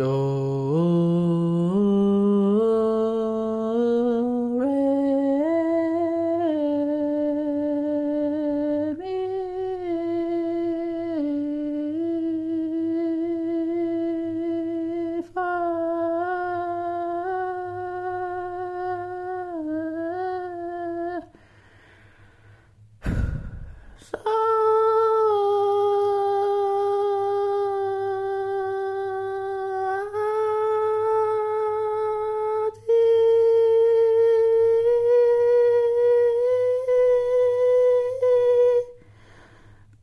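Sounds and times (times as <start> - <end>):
person humming: 0.0 - 21.4, 23.0 - 39.0.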